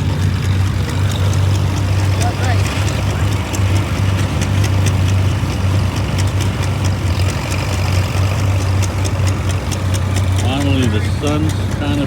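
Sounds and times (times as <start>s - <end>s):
engine humming: 0.0s - 12.0s
light ticking: 0.0s - 12.0s.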